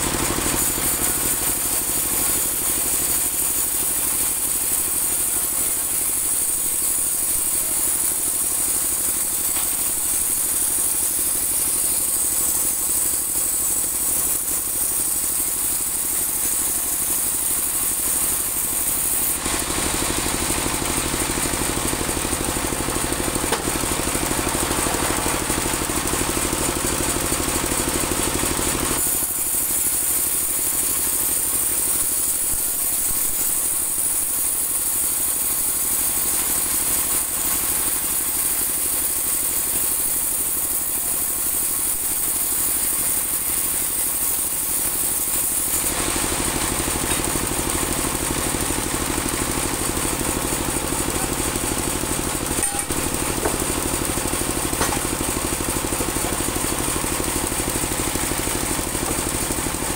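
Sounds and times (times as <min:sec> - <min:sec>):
saw blade cutting wood: 0:00.0 - 0:56.5, 0:57.2 - 0:59.9.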